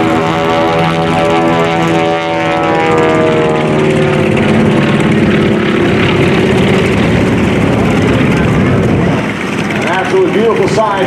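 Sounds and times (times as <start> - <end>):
propeller plane engines flying past: 0.0 - 11.0.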